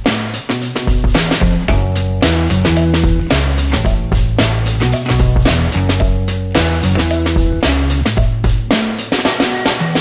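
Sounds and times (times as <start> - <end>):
funk background music: 0.0 - 10.0.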